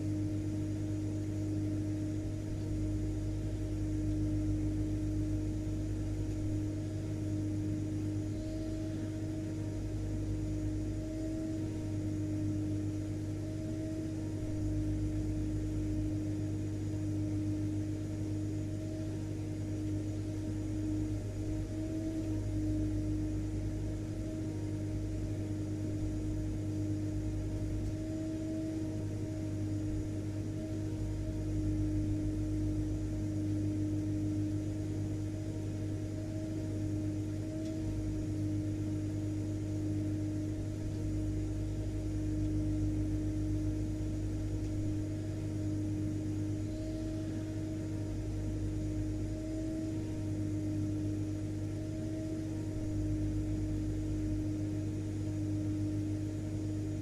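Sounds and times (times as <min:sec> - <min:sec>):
vacuum cleaner motor running: 0:00.0 - 0:57.0.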